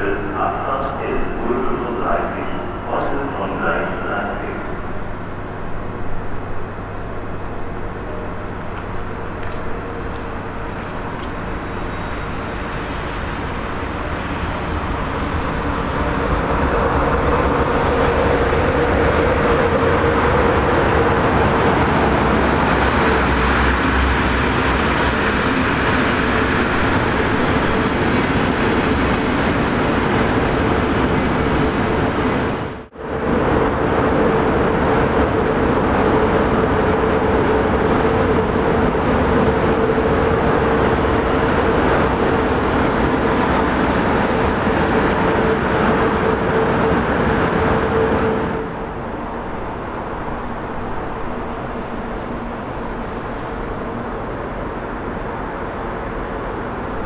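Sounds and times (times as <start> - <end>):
steady train hum: 0.0 - 57.0
train wheels rumbling on rails: 0.0 - 57.0.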